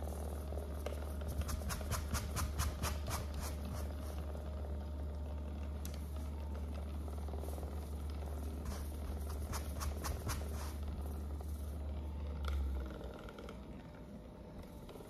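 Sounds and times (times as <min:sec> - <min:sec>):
massage gun buzzing: 0:00.0 - 0:14.0.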